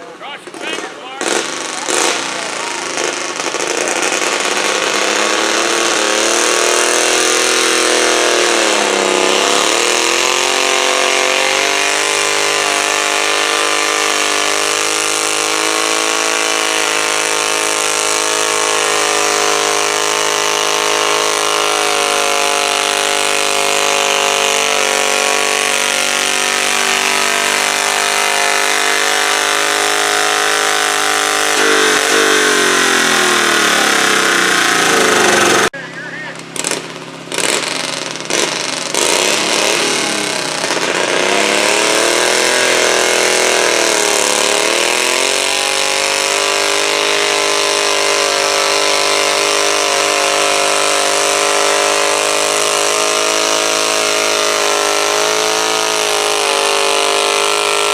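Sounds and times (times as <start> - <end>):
tractor engine at high revs: 0.0 - 57.9.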